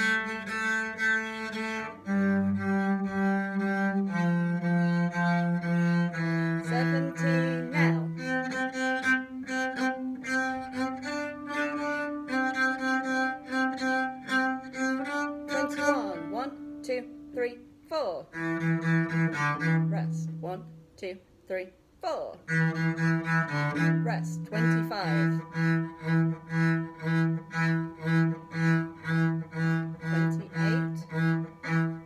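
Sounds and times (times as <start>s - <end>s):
cello bowed: 0.0s - 21.1s, 22.2s - 32.0s.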